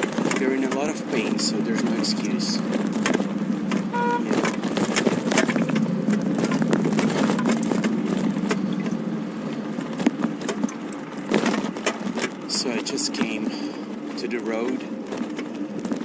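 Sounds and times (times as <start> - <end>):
bicycle rattling: 0.0 - 16.0
low rumble of riding noise: 0.0 - 16.0.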